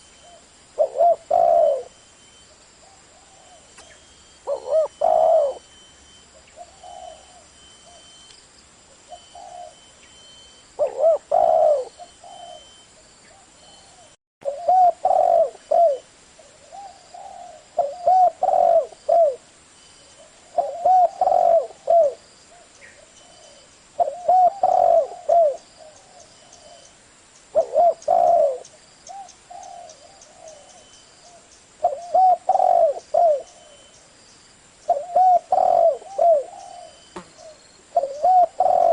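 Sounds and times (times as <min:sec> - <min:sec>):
dove cooing: 0:00.0 - 0:02.0, 0:02.8 - 0:08.2, 0:09.1 - 0:09.9, 0:10.8 - 0:19.5, 0:20.2 - 0:26.9, 0:27.5 - 0:34.0, 0:34.8 - 0:38.9.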